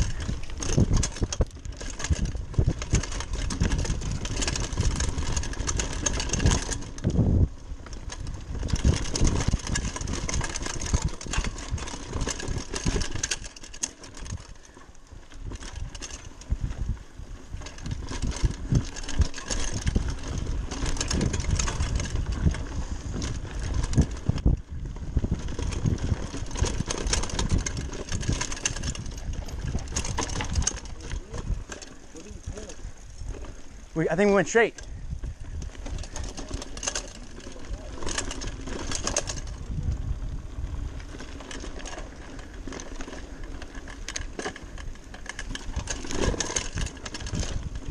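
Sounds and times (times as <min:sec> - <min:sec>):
bike rattling and knocking: 0:00.0 - 0:47.9
bike tyres rumbling over dirt: 0:00.0 - 0:47.9.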